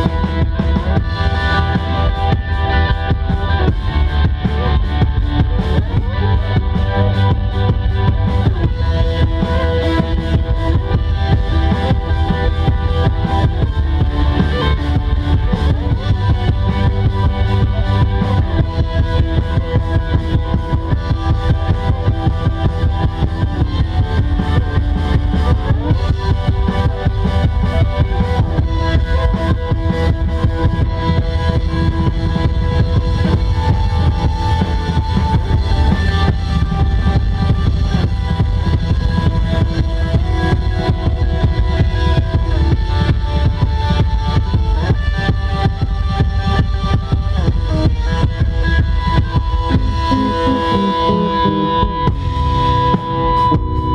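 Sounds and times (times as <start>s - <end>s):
drum kit beat: 0.0s - 53.9s
sustained electric guitar notes: 0.0s - 53.9s.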